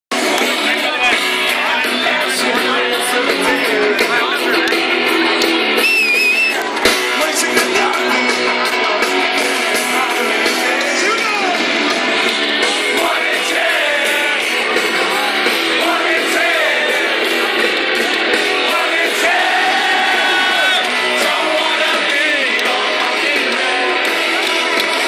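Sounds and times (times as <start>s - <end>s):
drums: 0.1s - 25.0s
electric guitars: 0.1s - 25.0s.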